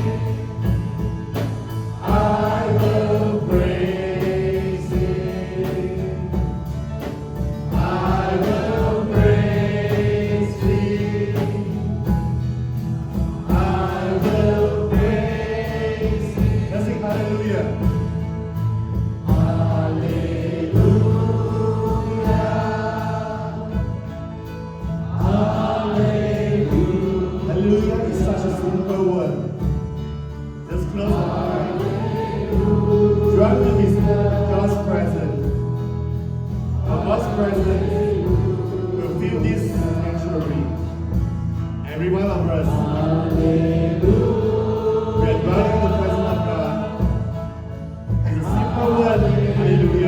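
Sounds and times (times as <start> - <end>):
group of voices singing: 0.0 - 29.7, 30.6 - 50.0
band playing steady beat: 0.0 - 50.0.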